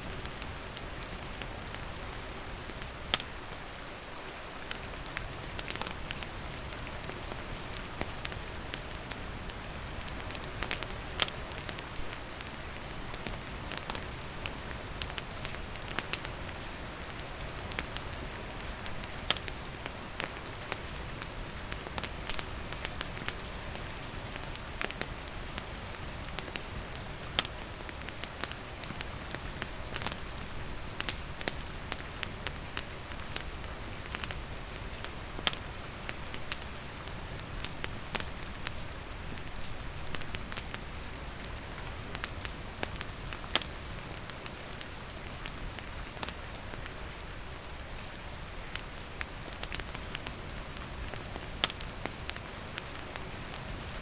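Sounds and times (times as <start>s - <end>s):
rain pattering on surfaces: 0.0s - 54.0s
wood fire crackling and popping: 0.1s - 3.8s, 4.6s - 54.0s.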